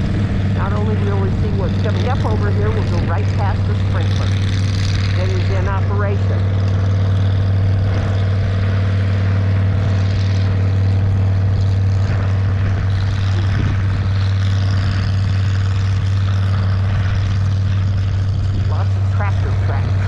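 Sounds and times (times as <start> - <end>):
farm motor droning: 0.0 - 20.0.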